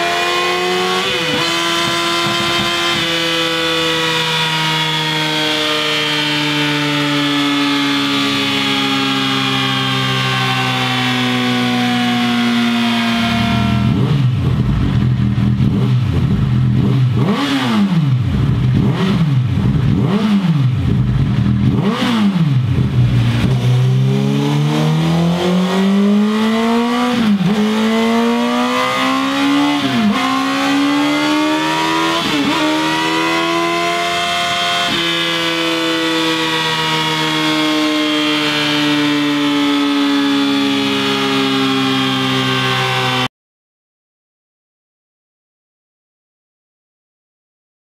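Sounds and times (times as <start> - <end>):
motorcycle engine revving: 0.0 - 43.3.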